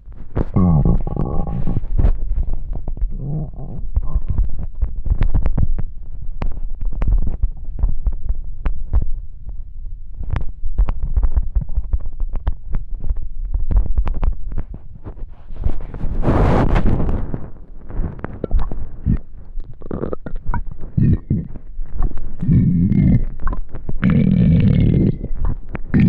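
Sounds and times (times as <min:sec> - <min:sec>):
stomach gurgling and growling: 0:00.0 - 0:26.0.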